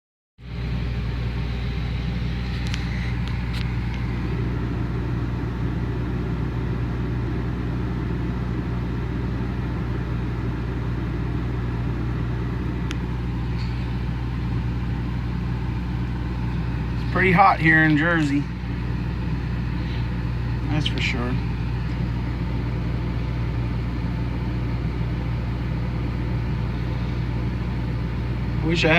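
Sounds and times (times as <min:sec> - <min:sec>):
engine droning steadily: 0:00.4 - 0:28.9.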